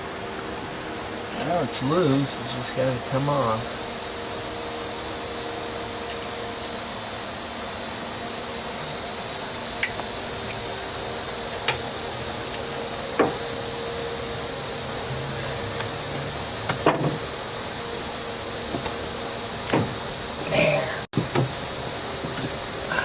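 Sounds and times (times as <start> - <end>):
fan-like hiss: 0.0 - 23.0.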